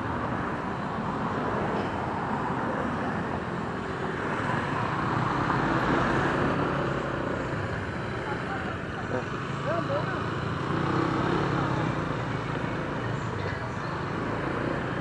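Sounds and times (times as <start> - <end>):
motorcycle riding noise: 2.9 - 15.0.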